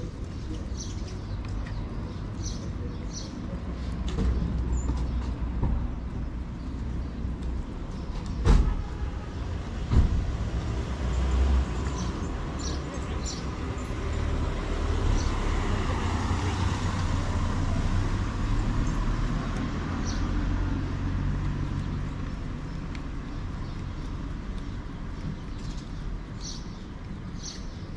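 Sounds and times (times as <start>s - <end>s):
road traffic noise: 0.0s - 27.9s.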